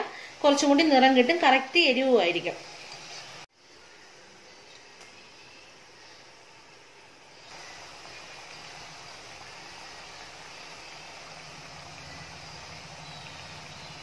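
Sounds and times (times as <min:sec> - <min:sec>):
dough sizzling in hot oil: 0:00.0 - 0:04.2, 0:05.1 - 0:14.0.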